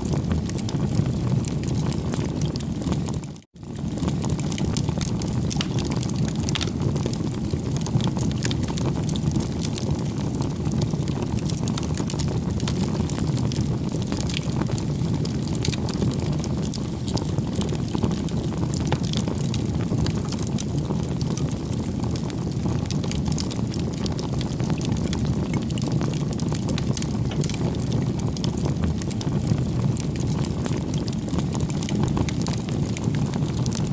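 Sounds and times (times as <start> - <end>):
fire crackling: 0.0 - 33.9
flames rushing: 0.1 - 33.9.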